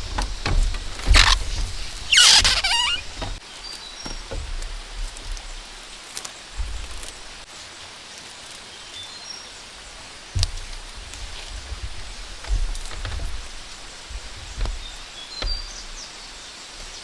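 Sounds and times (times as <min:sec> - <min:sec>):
scattered knocks: 0:00.0 - 0:03.4, 0:04.0 - 0:07.4, 0:09.8 - 0:17.0
rainforest hiss: 0:00.0 - 0:17.0.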